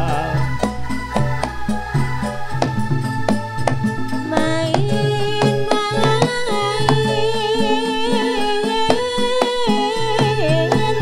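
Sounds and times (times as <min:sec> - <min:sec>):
hand drums beating: 0:00.0 - 0:11.0
held wavering melody: 0:00.0 - 0:11.0.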